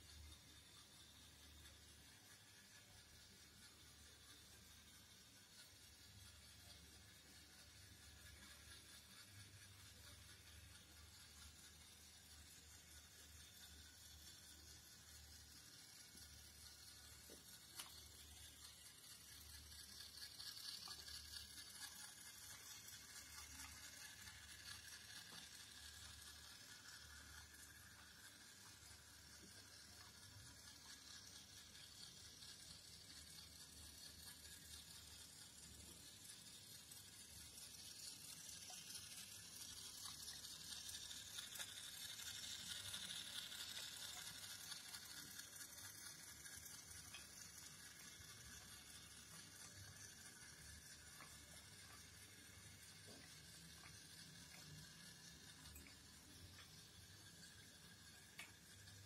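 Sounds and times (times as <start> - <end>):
light ticks: 0.0 - 59.0
toy train motors whirring: 0.0 - 59.0
wheels rolling on wooden track: 0.0 - 59.0.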